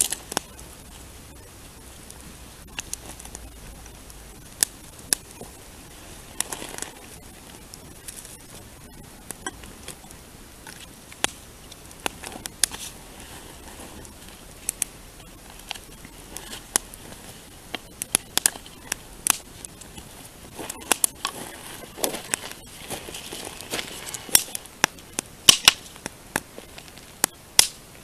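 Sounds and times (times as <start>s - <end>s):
soft hiss: 0.0s - 28.0s
wood fire crackling and popping: 0.0s - 28.0s.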